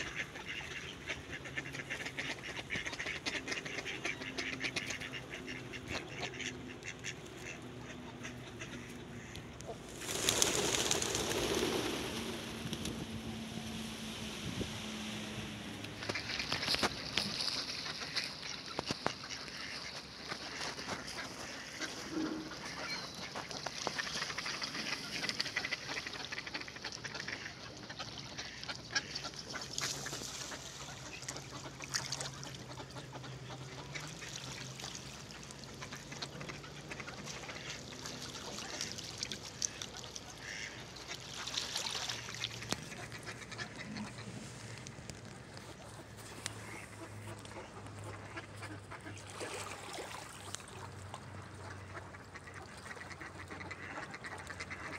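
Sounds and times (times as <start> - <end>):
ducks quacking: 0.0 - 9.8, 15.8 - 54.9.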